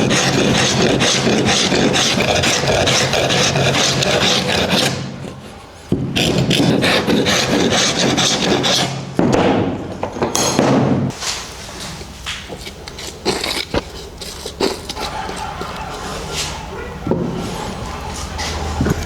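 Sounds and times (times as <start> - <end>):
hand file rasping on wood: 0.0 - 9.0, 12.6 - 19.0.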